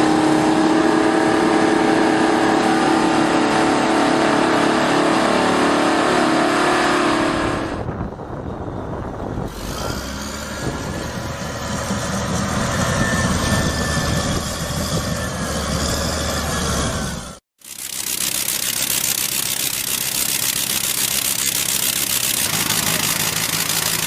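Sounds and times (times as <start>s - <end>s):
bulldozer diesel engine drone: 0.0s - 24.0s
rough engine rumble: 0.0s - 24.0s.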